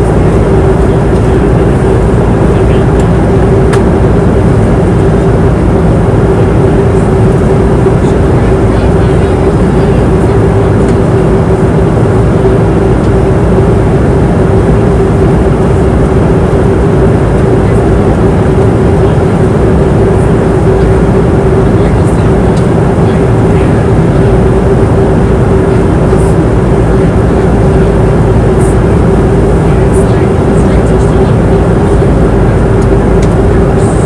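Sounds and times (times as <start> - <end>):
airliner cabin engine rush: 0.0 - 34.0
constant humming tone: 0.0 - 34.0.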